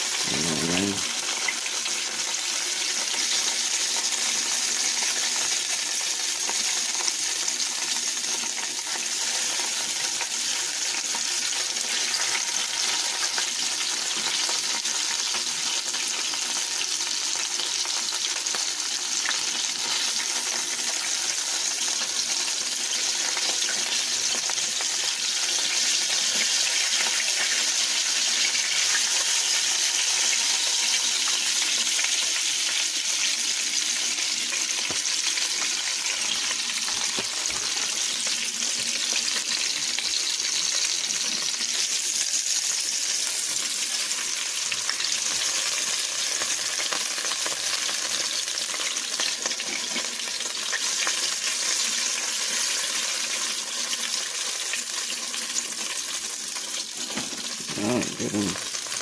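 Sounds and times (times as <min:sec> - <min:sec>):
meat sizzling in a frying pan: 0:00.0 - 0:59.0.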